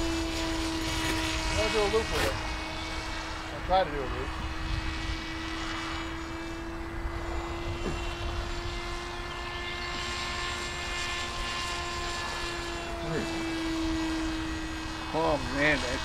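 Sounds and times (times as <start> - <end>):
low wind rumble: 0.0 - 16.0
model jet motor whine: 0.0 - 16.0.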